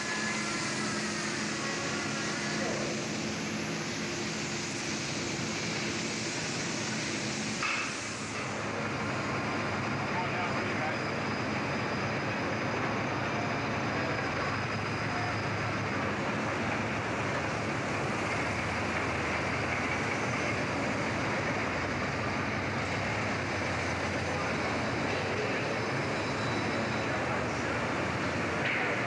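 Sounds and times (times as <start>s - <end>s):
repair shop machinery din: 0.0s - 29.0s.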